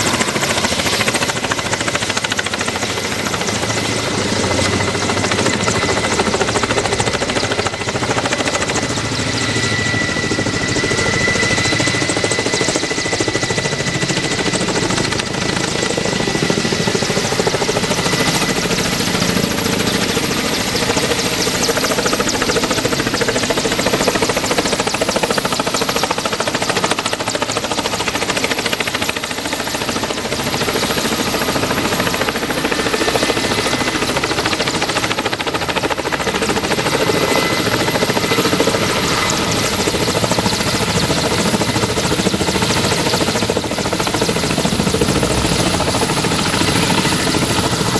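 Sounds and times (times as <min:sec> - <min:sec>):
helicopter running: 0:00.0 - 0:47.9.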